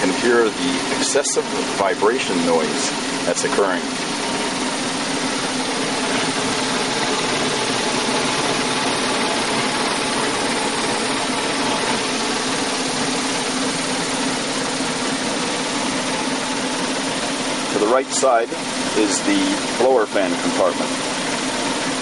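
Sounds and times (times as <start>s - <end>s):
furnace blower fan vibrating: 0.0s - 22.0s.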